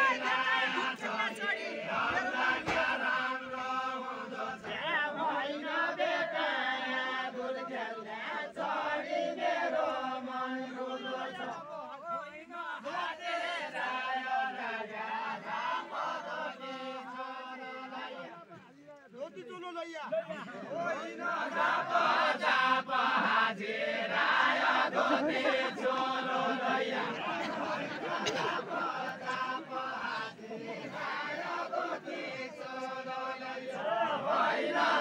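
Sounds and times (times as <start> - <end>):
men singing in chorus: 0.0 - 18.7, 20.5 - 35.0.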